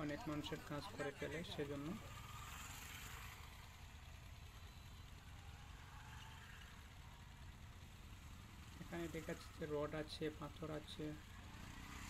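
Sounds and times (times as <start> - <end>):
faint engine idling: 0.0 - 12.0.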